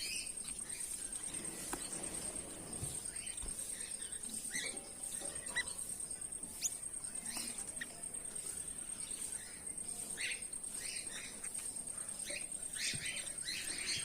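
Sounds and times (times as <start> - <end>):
goldfinches chirping: 0.0 - 14.0.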